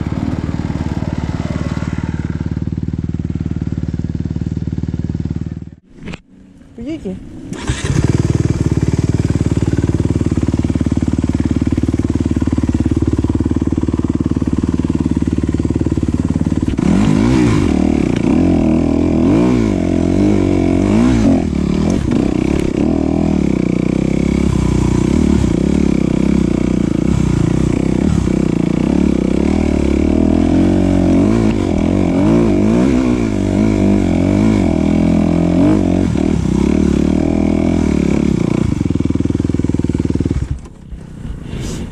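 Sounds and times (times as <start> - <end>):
motorcycle engine revving: 0.0 - 6.3, 7.3 - 41.9.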